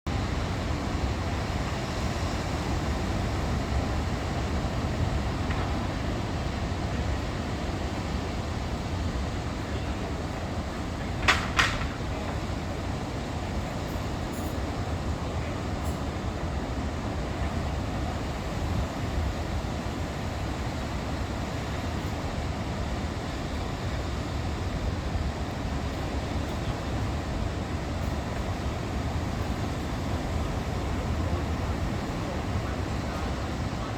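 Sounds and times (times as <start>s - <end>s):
waves rushing: 0.1s - 33.9s
wind: 0.1s - 33.9s.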